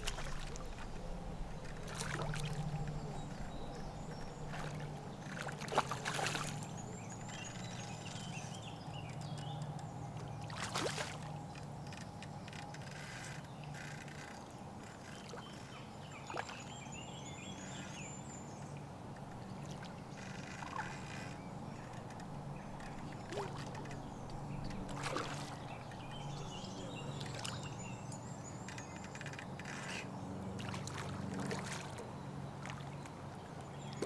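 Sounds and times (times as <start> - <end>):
steady low hum: 0.0 - 34.0
small birds singing: 0.2 - 34.0.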